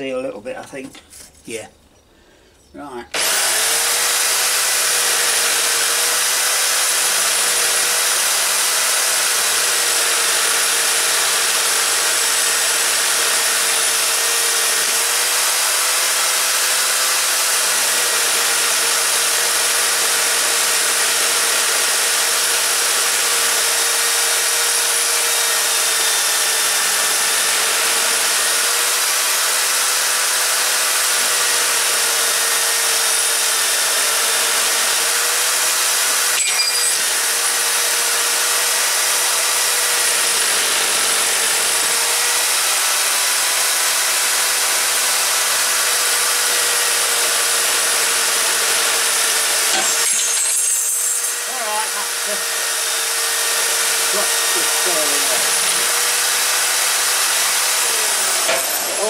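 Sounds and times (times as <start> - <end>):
drill motor whine: 3.1 - 59.0.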